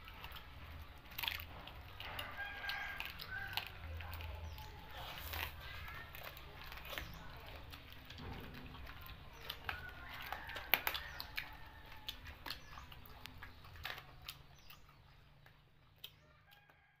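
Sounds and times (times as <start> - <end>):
fingers picking food off metal tray: 0.0 - 16.7
chewing: 0.0 - 17.0.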